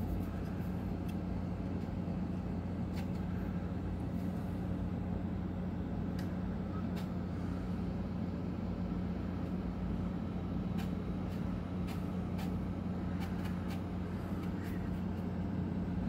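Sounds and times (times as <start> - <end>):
ceiling fan hum: 0.0 - 16.0.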